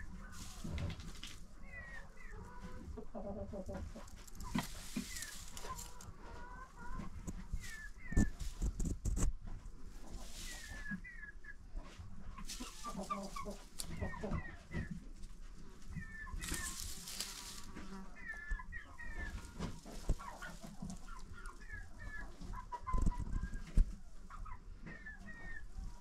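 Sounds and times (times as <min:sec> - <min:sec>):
straw rustling: 0:00.0 - 0:23.6
poultry chirping: 0:00.0 - 0:26.0.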